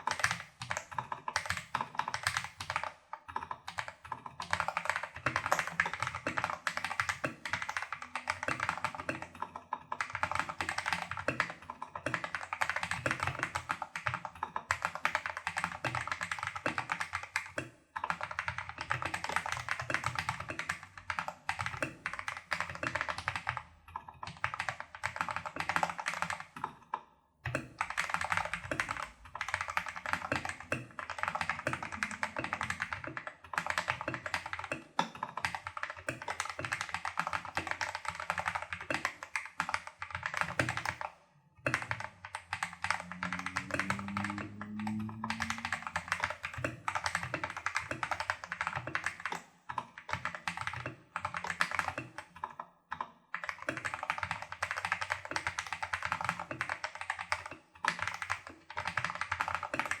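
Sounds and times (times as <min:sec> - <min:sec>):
mechanical keyboard typing: 0:00.0 - 0:26.8, 0:27.5 - 1:00.0.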